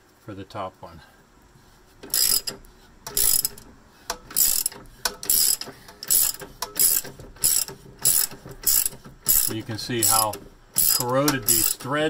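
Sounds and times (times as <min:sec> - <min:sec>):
ratcheting wrench clicking: 0:02.0 - 0:12.0.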